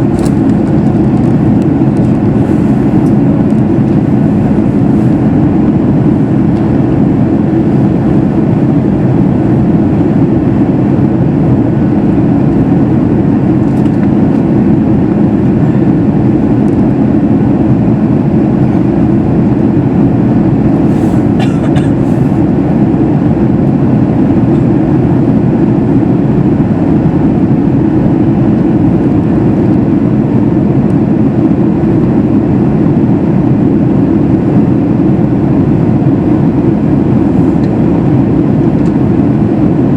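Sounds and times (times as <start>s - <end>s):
airflow around fuselage: 0.0s - 39.9s
airplane cabin engine drone: 0.0s - 39.9s.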